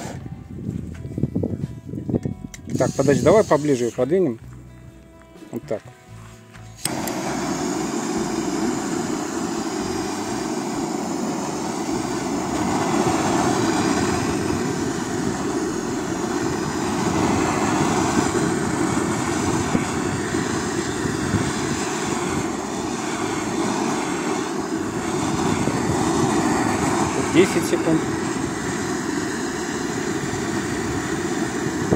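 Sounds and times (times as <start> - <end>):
gas torch hissing: 0.0 - 0.3, 2.6 - 4.0, 6.7 - 31.9.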